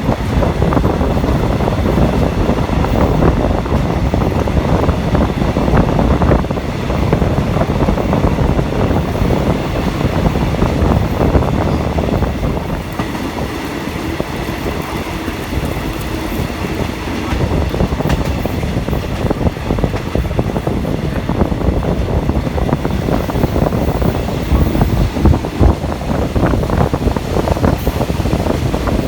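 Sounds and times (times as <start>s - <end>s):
train carriage rumbling: 0.0s - 29.0s
wheels clattering over rail joints: 0.0s - 29.0s.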